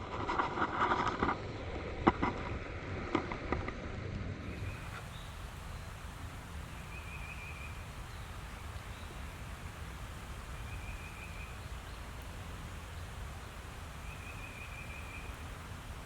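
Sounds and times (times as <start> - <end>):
low woodland rumble: 0.0 - 16.0.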